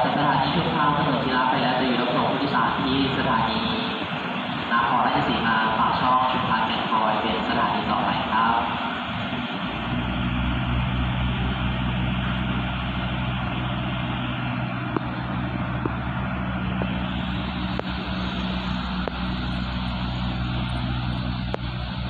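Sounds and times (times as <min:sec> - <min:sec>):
diesel train engines running: 0:00.0 - 0:22.0.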